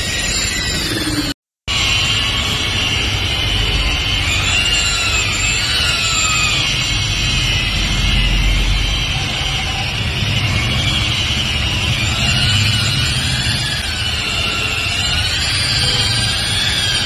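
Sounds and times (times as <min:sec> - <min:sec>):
electric polisher motor whine: 0:00.7 - 0:17.0.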